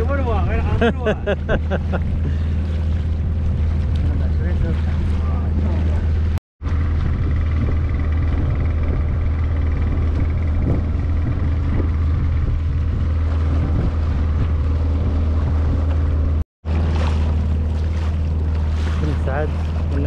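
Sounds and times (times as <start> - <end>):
boat motor droning: 0.0 - 20.0
water and hull noise: 0.0 - 20.0.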